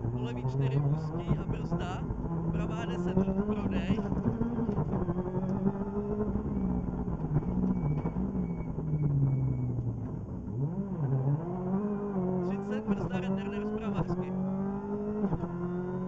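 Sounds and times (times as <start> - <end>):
rally car engine from inside cabin: 0.0 - 16.0.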